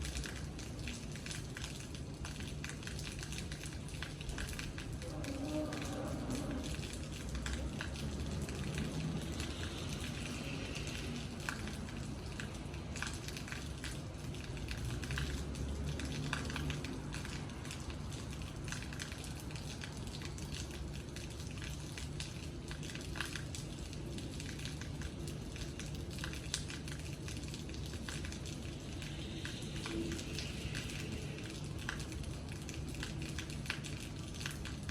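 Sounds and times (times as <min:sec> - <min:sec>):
rain drops tapping on hard surface: 0:00.0 - 0:34.9.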